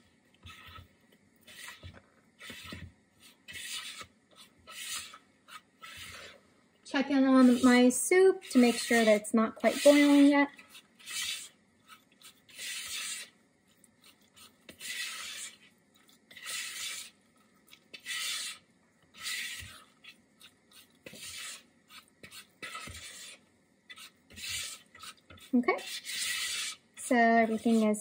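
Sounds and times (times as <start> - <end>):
spatula scraping plastic bowl: 0.0 - 28.0.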